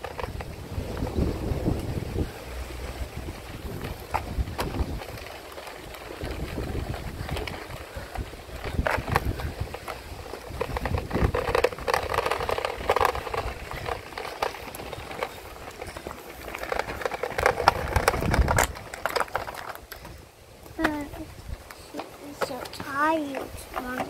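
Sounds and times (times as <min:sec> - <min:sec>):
scooter wheels rattling on asphalt: 0:00.0 - 0:24.0
wind rumbling on microphone: 0:00.0 - 0:24.0.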